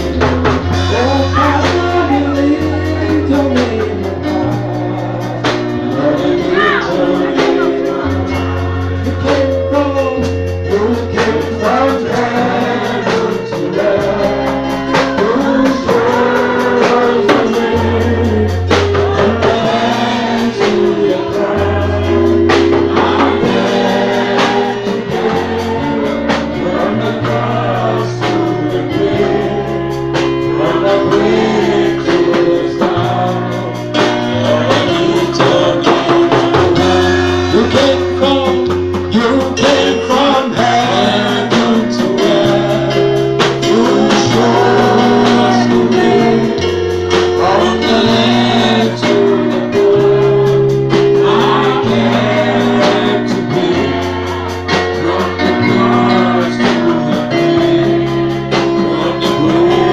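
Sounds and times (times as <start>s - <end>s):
bass line: 0.0s - 59.9s
gospel singing voices: 0.0s - 59.9s
steady beat: 0.0s - 59.9s.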